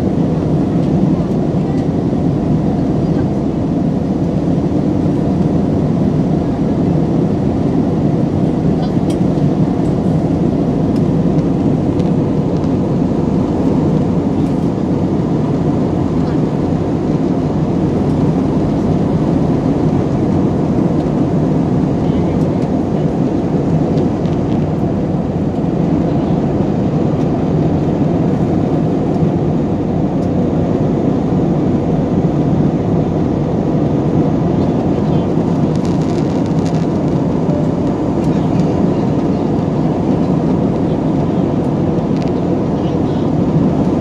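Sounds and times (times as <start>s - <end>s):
airliner cabin drone: 0.0s - 44.0s.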